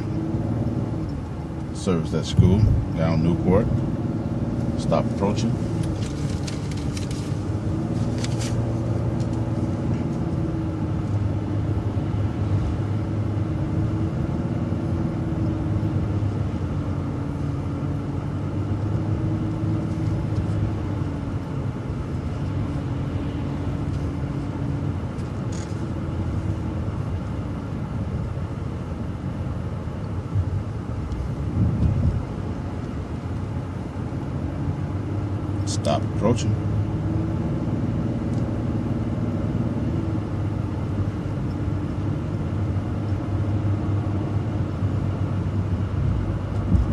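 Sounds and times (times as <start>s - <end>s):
bus engine droning: 0.0s - 46.9s
road noise: 0.0s - 46.9s.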